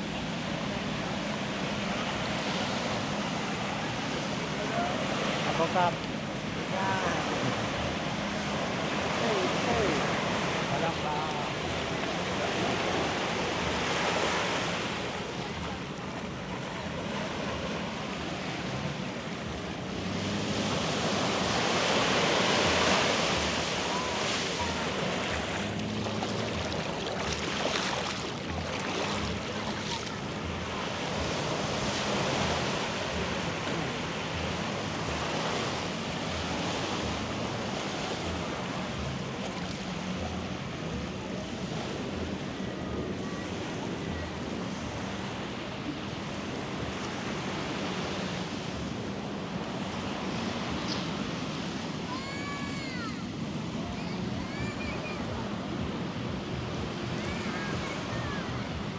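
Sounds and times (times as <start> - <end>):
sea waves breaking on beach: 0.0 - 58.9.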